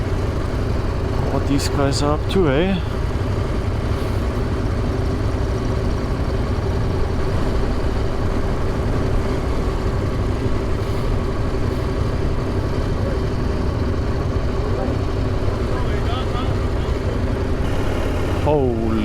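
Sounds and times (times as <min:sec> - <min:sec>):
motorcycle engine running: 0:00.0 - 0:19.0
road rumble: 0:00.0 - 0:19.0.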